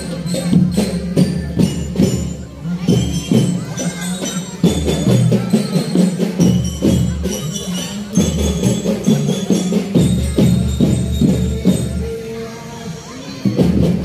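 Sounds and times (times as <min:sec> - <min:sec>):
marching drums: 0:00.0 - 0:12.2, 0:13.4 - 0:14.0
bell-like notes ringing: 0:00.0 - 0:12.3.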